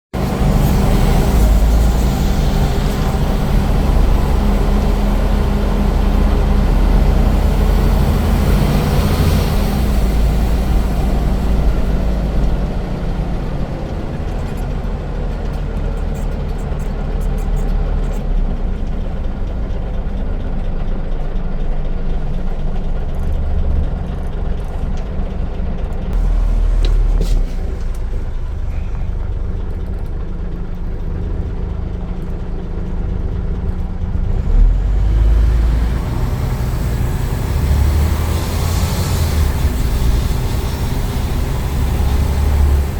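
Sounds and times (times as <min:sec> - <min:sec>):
bus diesel engine running: 0:00.0 - 0:42.9.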